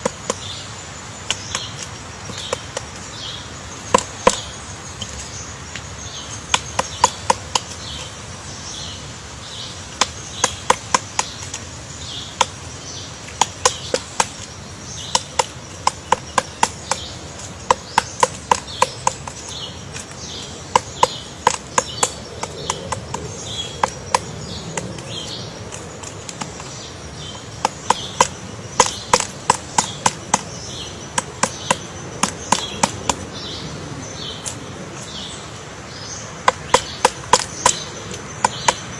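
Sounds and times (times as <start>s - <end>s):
woodpecker pecking wood: 0.0s - 38.9s.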